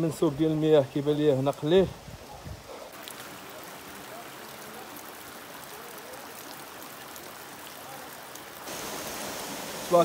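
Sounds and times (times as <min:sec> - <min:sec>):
water trickling and dripping: 0:00.0 - 0:10.0.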